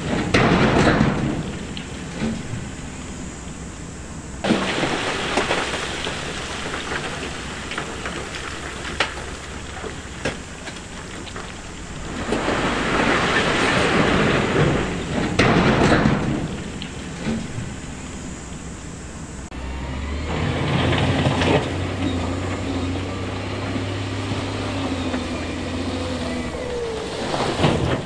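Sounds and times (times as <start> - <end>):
rocks sliding and tumbling: 0.0 - 19.4, 20.4 - 28.0.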